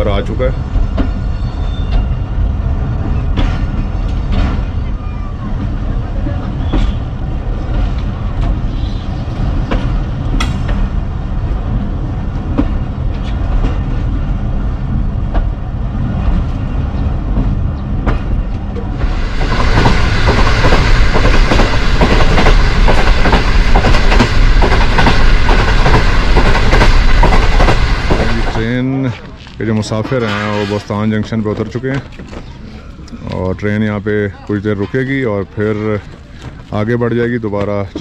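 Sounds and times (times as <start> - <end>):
train rumbling along track: 0.0 - 38.0.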